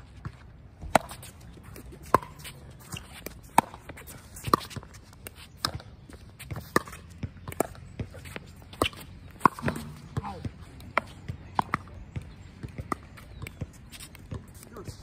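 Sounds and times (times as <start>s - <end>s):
ball bouncing: 0.2s - 5.0s, 5.6s - 15.0s.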